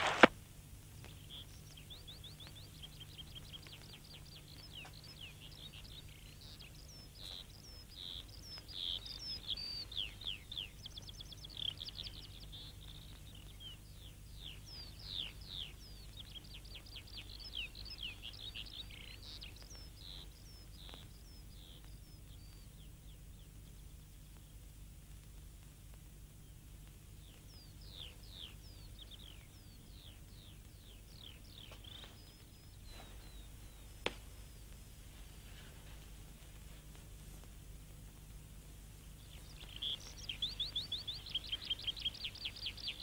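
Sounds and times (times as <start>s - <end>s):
faint songbirds singing: 0.0s - 43.0s
low steady hum: 0.0s - 43.0s.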